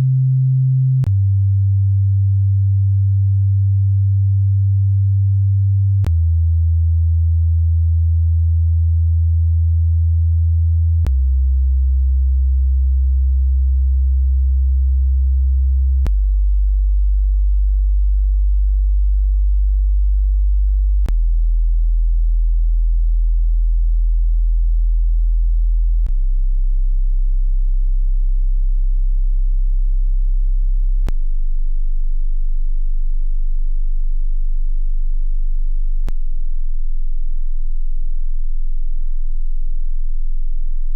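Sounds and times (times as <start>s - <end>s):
descending sine test tone: 0.0s - 40.9s.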